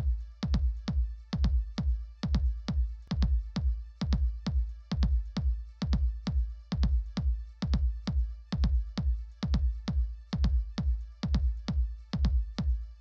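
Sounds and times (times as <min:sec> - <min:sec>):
electronic music with drum-machine beat: 0:00.0 - 0:13.0.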